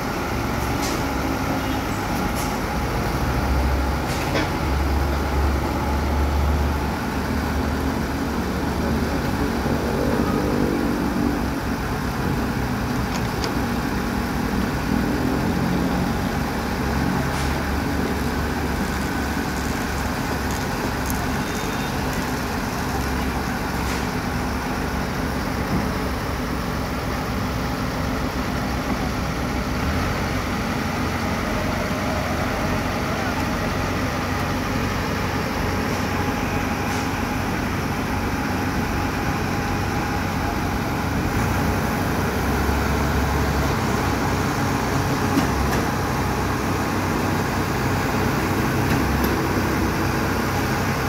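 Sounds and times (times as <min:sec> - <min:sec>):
truck diesel engine running: 0:00.0 - 0:51.0.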